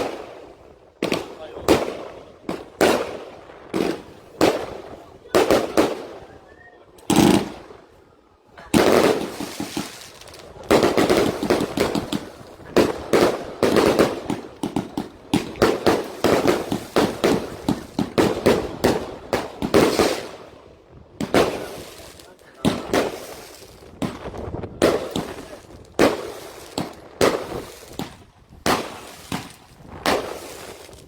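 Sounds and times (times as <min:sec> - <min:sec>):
fireworks and firecrackers banging: 0:00.0 - 0:31.0.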